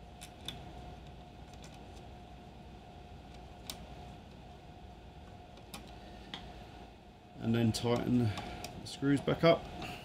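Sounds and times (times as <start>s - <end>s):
quiet steady hum: 0.0s - 10.0s.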